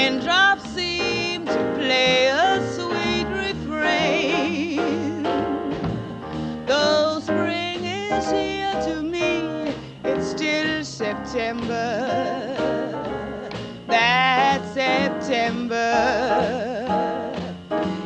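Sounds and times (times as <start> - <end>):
piano bass and drums: 0.0 - 18.0
woman singing jazz ballad: 0.0 - 18.0.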